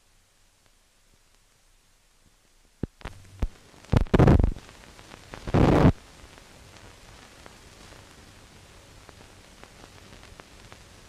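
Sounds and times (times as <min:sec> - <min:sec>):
crackling noise bursts: 0:00.0 - 0:11.0
film soundtrack hiss: 0:00.0 - 0:11.0.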